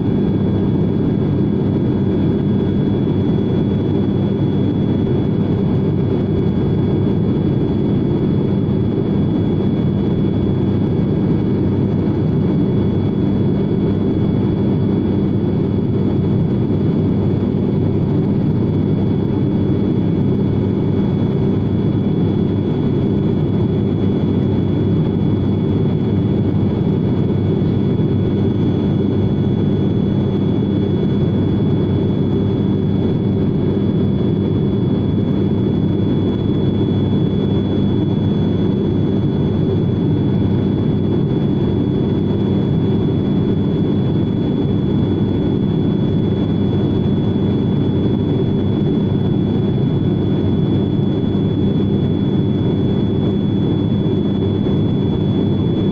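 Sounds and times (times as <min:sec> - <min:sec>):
aircraft engine drone in cabin: 0:00.0 - 0:55.9.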